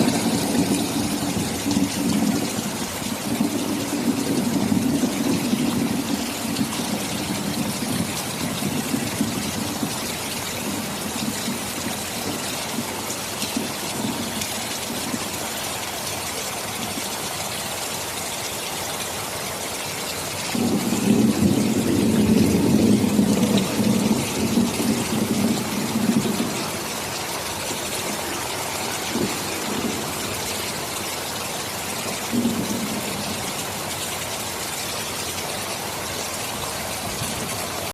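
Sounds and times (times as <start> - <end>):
thunder rumbling: 0.0 - 15.4, 20.5 - 34.5, 35.4 - 37.9
heavy rain: 0.0 - 37.9.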